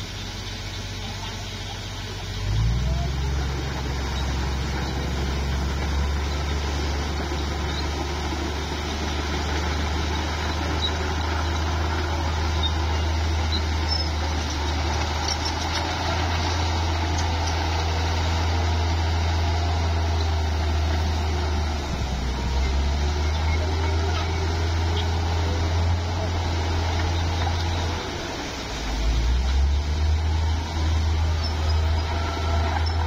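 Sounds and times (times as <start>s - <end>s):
bulldozer diesel engine running: 0.0s - 33.0s.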